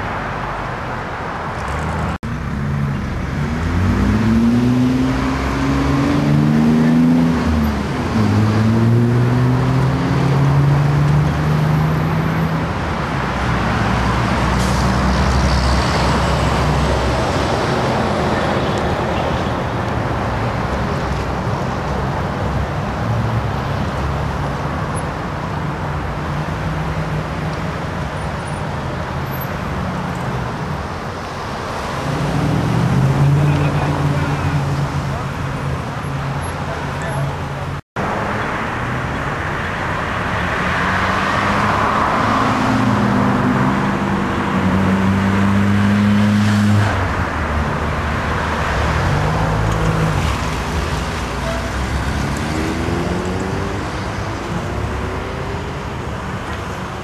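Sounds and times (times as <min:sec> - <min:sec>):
steady traffic hum: 0:00.0 - 0:57.0.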